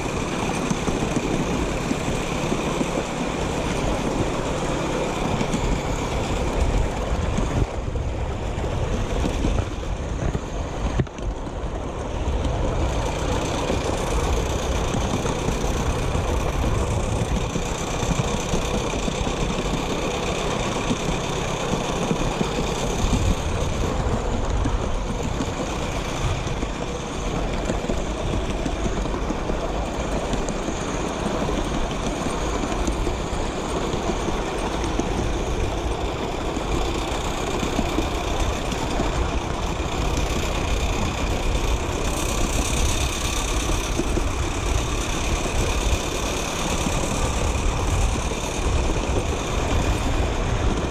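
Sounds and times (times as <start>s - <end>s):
miniature train rumbling and rattling: 0.0s - 50.9s.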